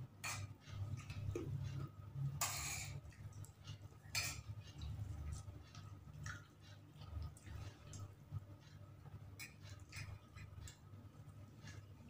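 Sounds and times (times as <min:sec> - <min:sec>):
low steady hum: 0:00.0 - 0:12.0
person eating by hand: 0:00.2 - 0:12.0.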